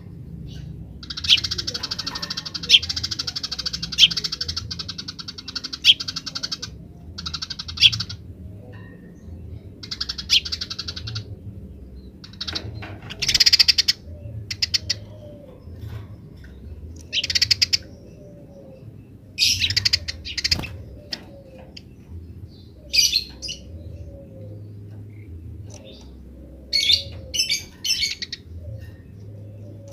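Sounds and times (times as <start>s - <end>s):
sparrows chattering calls: 0.0s - 29.9s.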